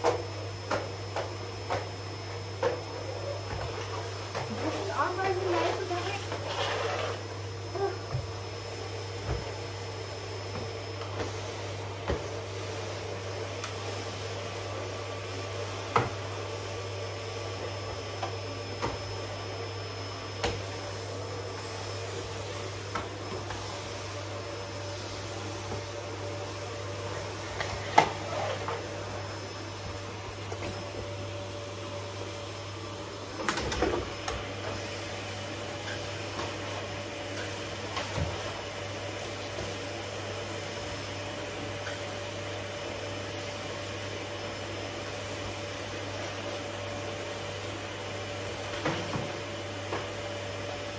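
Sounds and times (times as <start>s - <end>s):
vacuum cleaner running: 0.0s - 50.9s.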